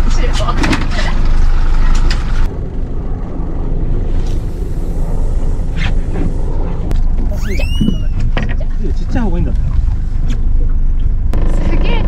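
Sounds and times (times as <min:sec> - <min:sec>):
boat engine rumbling: 0:00.6 - 0:11.4.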